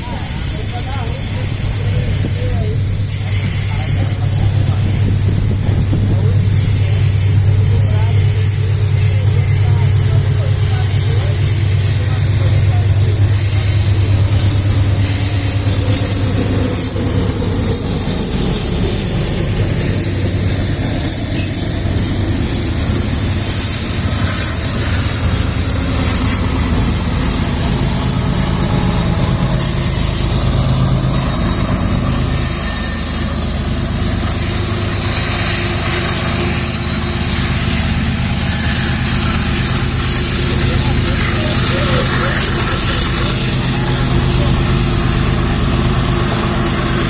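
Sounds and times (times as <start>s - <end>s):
diesel locomotive engine running: 0.0s - 47.0s.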